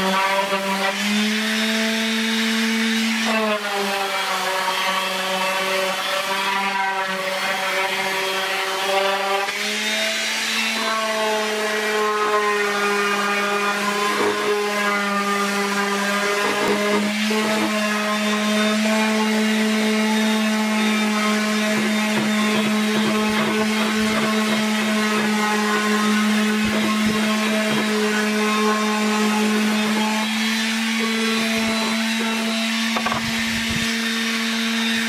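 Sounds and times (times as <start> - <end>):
orbital sander sanding wood: 0.0 - 35.0.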